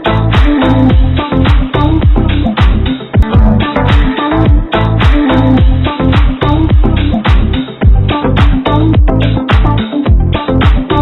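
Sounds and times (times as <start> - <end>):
electronic dance music: 0.0 - 11.0
thumping kick drum: 0.4 - 11.0.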